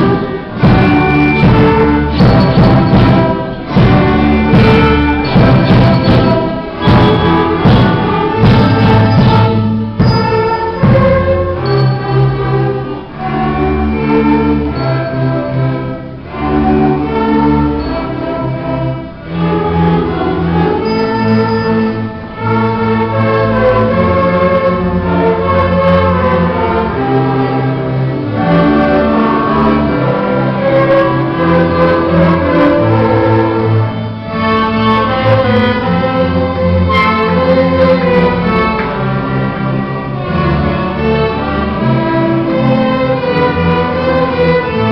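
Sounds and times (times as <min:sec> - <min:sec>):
string orchestra playing: 0:00.0 - 0:44.9.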